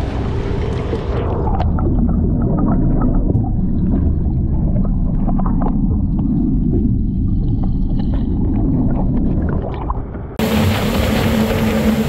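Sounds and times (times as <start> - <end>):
muffled underwater rumble: 0.0 - 12.0
water gurgling: 0.0 - 12.0.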